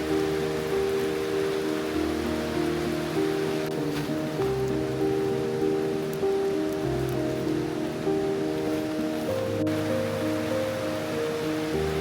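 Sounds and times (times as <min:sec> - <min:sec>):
rain falling: 0:00.0 - 0:12.0
soft background music: 0:00.0 - 0:12.0.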